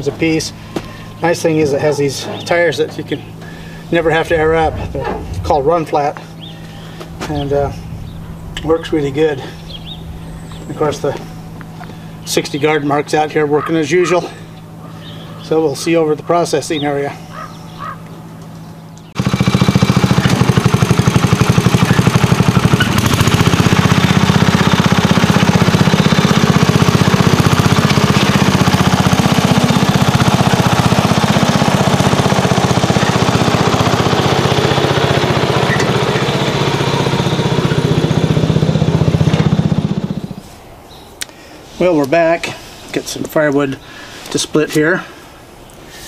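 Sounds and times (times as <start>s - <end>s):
garden tractor engine running: 0.0s - 40.6s.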